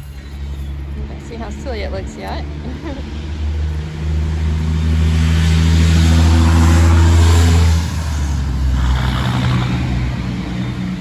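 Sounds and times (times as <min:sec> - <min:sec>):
heavy truck passing: 0:00.0 - 0:11.0
traffic rumble: 0:00.0 - 0:11.0.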